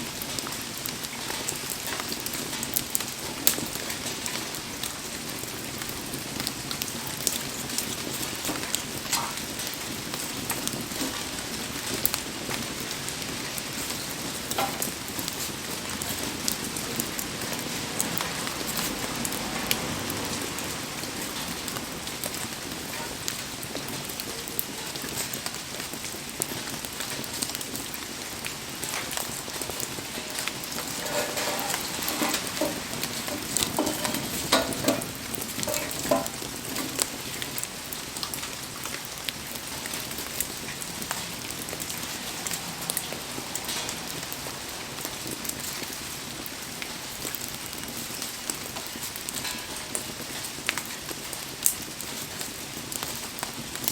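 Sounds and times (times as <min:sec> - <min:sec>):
heavy rain falling: 0:00.0 - 0:53.9
wood fire crackling: 0:00.0 - 0:53.9.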